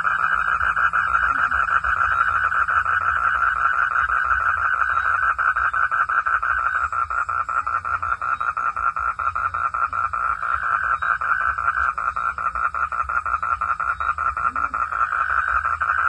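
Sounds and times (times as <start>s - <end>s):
frogs calling in chorus: 0.0s - 16.0s.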